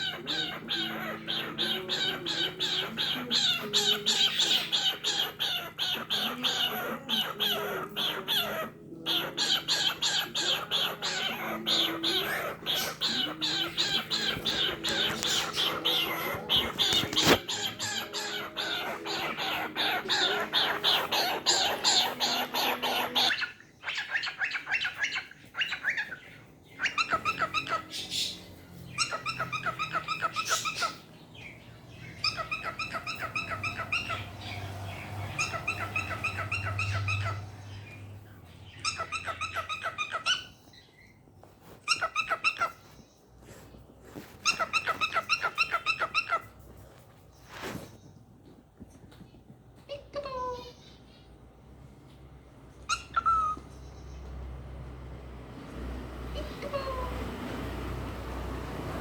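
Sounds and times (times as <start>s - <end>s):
pet bird chattering and trilling: 0.0s - 48.1s, 52.7s - 54.4s, 56.3s - 57.3s.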